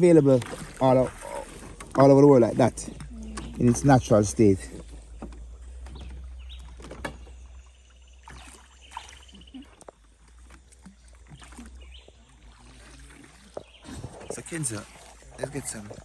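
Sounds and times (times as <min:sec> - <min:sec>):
water lapping and splashing: 0:00.0 - 0:16.0.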